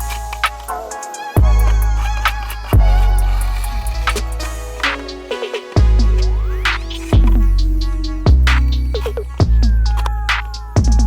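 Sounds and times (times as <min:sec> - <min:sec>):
electronic music with sub-bass: 0:00.0 - 0:11.0.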